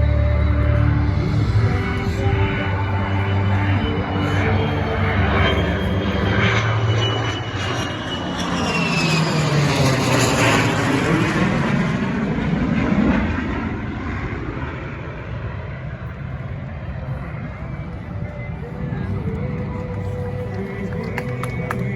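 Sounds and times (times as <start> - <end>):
airplane flying past: 0.0 - 21.9
high engine whine: 0.0 - 21.9.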